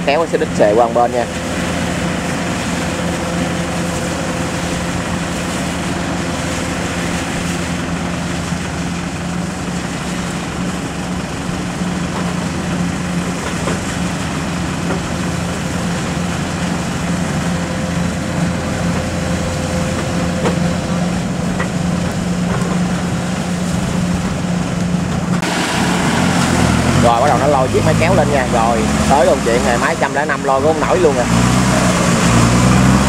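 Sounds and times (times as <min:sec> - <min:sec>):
combine harvester diesel engine drone: 0:00.0 - 0:33.0.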